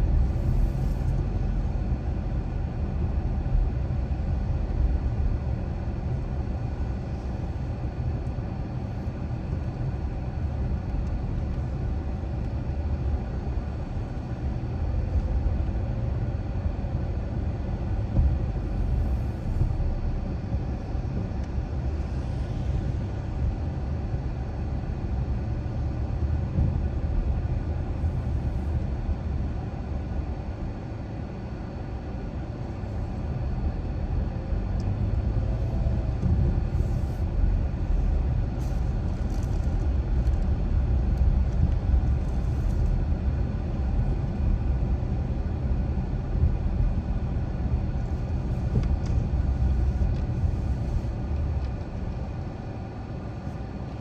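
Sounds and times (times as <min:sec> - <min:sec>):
car driving rumble: 0:00.0 - 0:23.5, 0:32.6 - 0:54.0.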